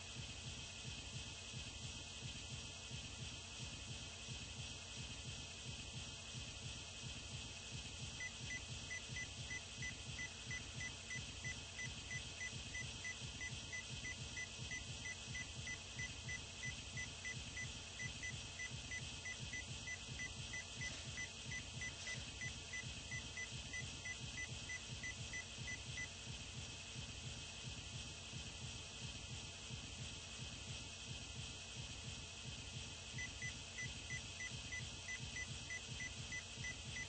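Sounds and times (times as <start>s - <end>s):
steady hiss: 7.2s - 37.0s.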